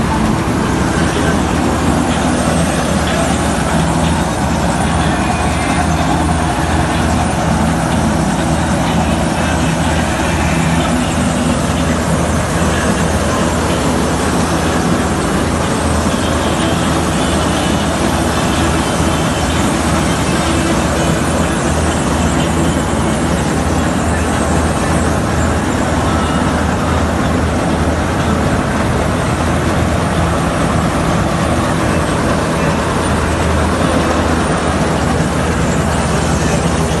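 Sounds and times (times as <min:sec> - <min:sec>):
combine harvester engine droning: 0:00.0 - 0:37.0.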